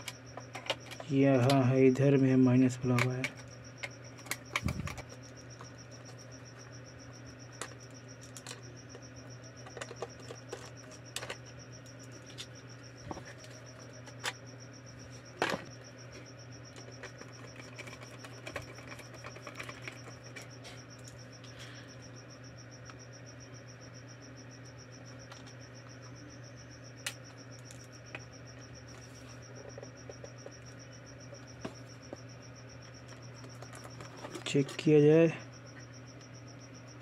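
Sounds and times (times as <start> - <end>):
crickets chirping: 0.0 - 37.0
steady low hum: 0.0 - 37.0.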